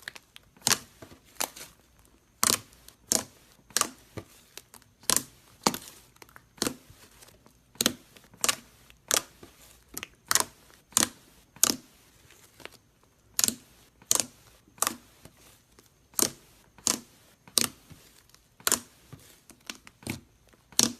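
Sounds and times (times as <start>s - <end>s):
slime popping and crackling: 0.0s - 7.0s, 7.7s - 12.0s, 12.6s - 15.5s, 16.1s - 20.9s.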